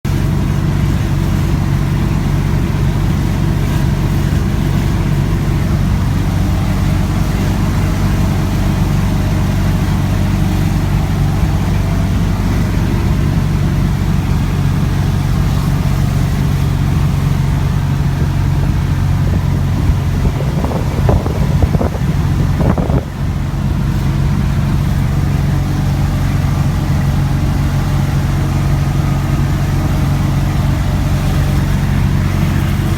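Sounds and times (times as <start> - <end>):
van engine running: 0.0 - 32.9.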